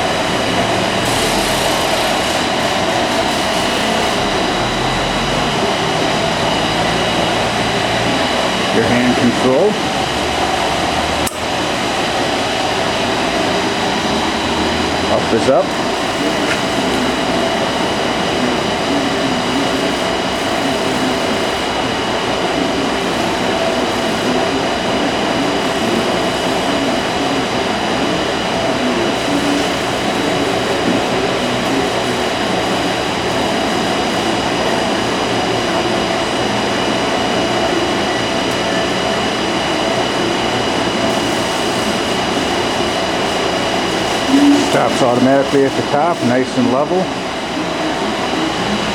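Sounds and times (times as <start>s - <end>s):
lift motor whine: 0.0s - 48.9s.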